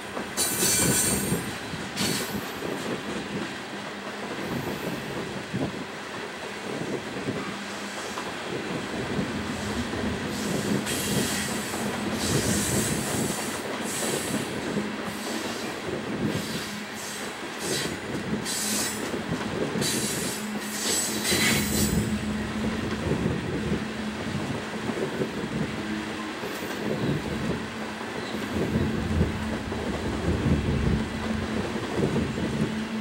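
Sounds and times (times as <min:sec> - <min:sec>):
rumble of steel wheels on rail: 0:00.0 - 0:33.0.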